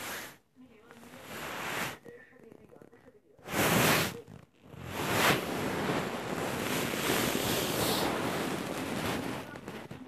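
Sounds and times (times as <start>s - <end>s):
rustling on microphone: 0.0s - 10.0s.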